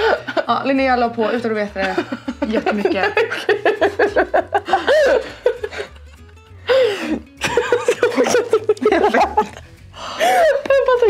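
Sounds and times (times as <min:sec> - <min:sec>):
people laughing: 0:00.0 - 0:00.7, 0:01.3 - 0:11.0
background music with bass line: 0:00.0 - 0:11.0.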